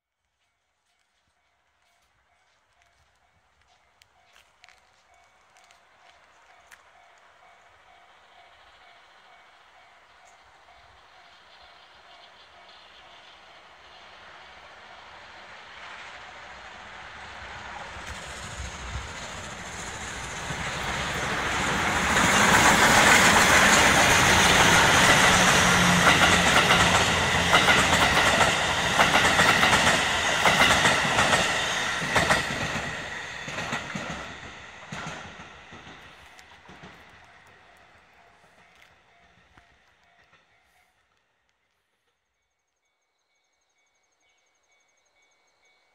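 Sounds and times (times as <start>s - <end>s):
steam locomotive passing: 1.3s - 42.4s.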